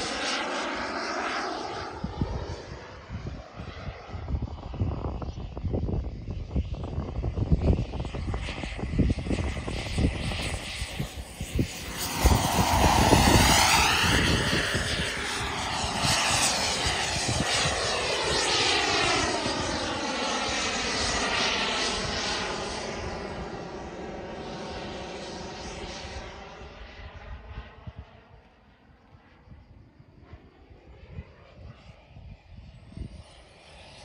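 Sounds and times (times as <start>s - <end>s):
model jet turbine passing: 0.0s - 34.0s.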